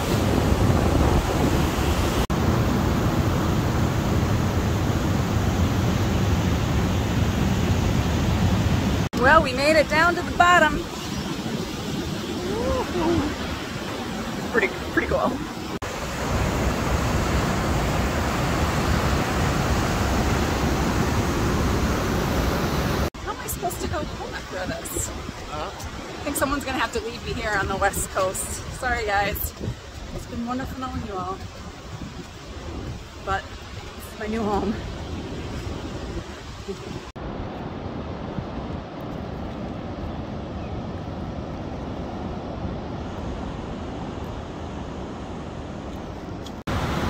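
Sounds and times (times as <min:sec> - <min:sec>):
ocean surf over rocks: 0:00.0 - 0:47.0
wind buffeting microphone: 0:00.0 - 0:47.0.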